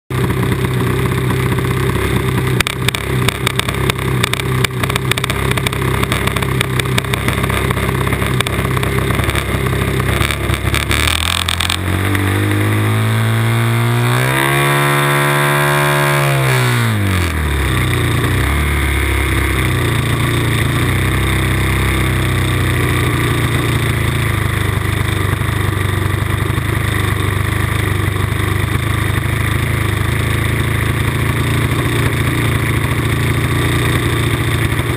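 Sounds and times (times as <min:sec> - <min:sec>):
rattle: 0:00.1 - 0:13.4, 0:17.3 - 0:34.9
model airplane engine running: 0:00.1 - 0:34.9.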